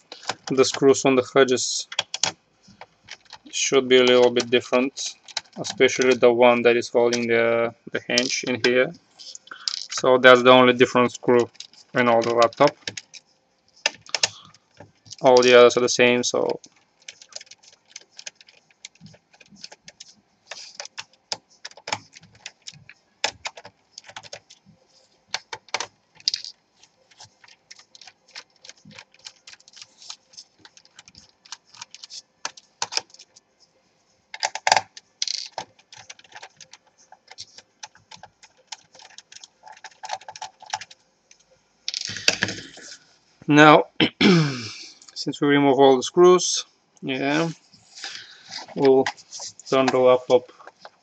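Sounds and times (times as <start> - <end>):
handling noise: 1.8 - 7.4, 8.0 - 33.6, 34.3 - 43.0, 47.7 - 51.0.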